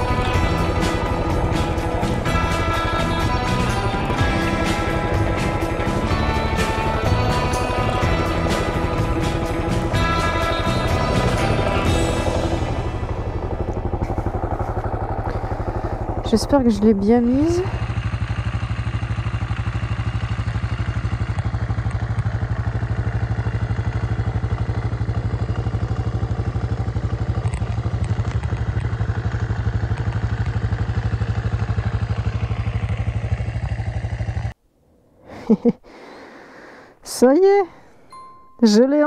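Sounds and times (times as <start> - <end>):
motorcycle engine running: 0.0 - 34.6.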